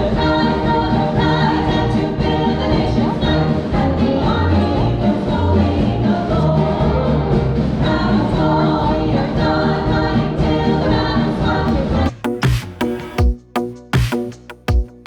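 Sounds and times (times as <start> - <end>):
vocal group singing: 0.0 - 13.2.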